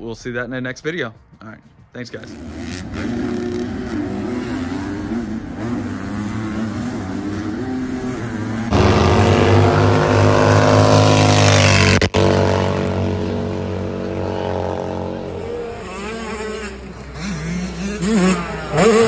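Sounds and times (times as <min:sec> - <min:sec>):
motorcycle engine revving: 0:02.2 - 0:19.0
loud motorcycle engine at high revs: 0:02.3 - 0:19.0.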